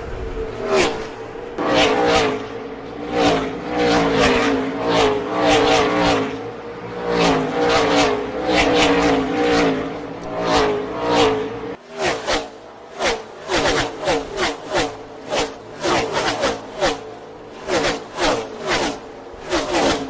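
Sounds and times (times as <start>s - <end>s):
race cars passing by: 0.0s - 20.0s.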